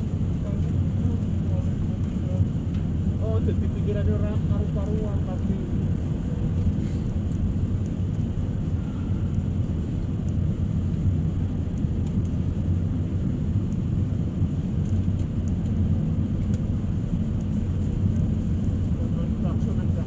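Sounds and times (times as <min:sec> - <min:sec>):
jet engine cabin drone: 0:00.0 - 0:20.0.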